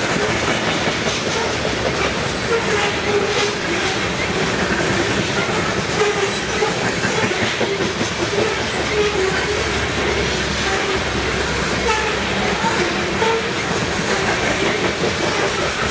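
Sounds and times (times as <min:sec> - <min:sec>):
clickety-clack over rail joints: 0:00.0 - 0:15.9
train wheels on rails: 0:00.0 - 0:15.9.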